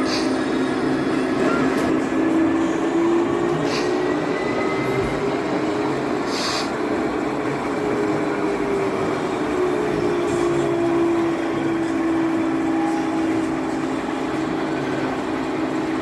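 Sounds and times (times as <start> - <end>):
model train humming: 0.0 - 16.0.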